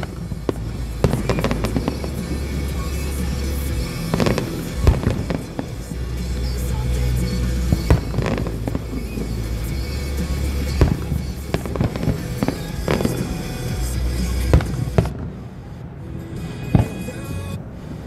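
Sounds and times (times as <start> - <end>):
fireworks bangs: 0.0 - 18.0
low rumble: 0.0 - 18.0.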